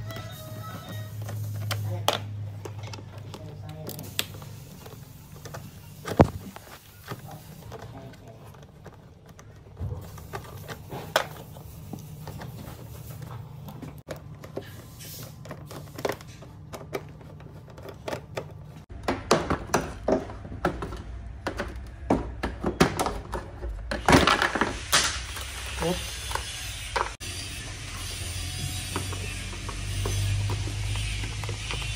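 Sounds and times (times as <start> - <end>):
hand tools clicking and knocking: 0.0 - 24.6, 28.6 - 31.9.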